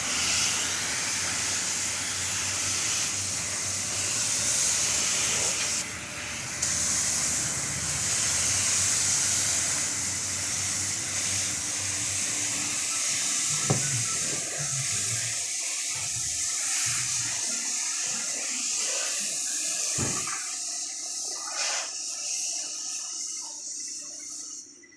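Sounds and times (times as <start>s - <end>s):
pressurized liquid spraying hiss: 0.0s - 24.8s.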